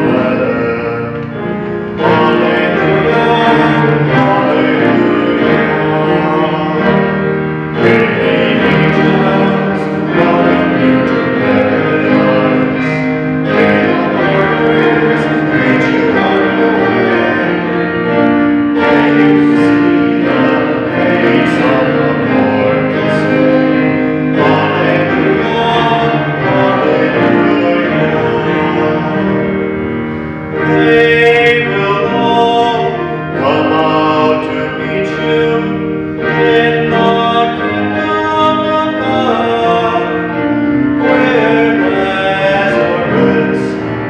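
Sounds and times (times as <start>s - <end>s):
hymn singing: 0.0s - 44.0s
keyboard accompaniment: 0.0s - 44.0s.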